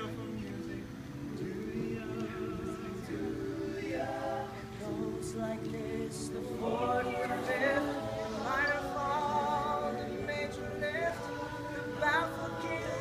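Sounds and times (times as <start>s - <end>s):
a cappella choir singing: 0.0s - 13.0s.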